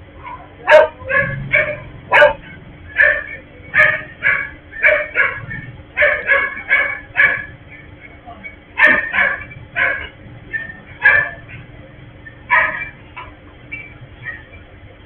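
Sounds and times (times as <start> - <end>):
dog barking and yipping: 0.2 - 8.0, 8.8 - 14.6.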